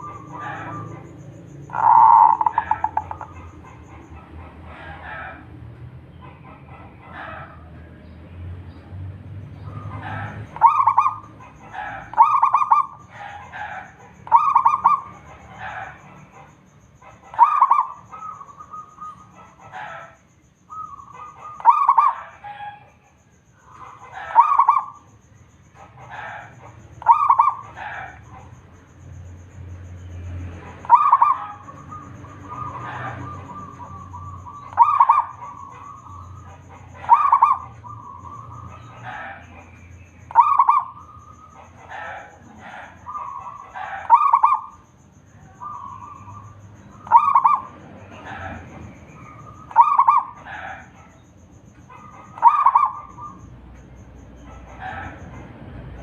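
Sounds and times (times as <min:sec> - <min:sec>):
dove cooing song: 0:00.0 - 0:07.9, 0:09.5 - 0:28.8, 0:30.1 - 0:56.0.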